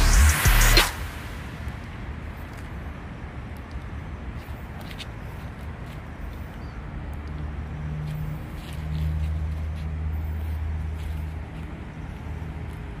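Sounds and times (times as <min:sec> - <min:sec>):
outdoor background noise: 0:00.0 - 0:13.0
vehicle engine hum: 0:00.0 - 0:13.0.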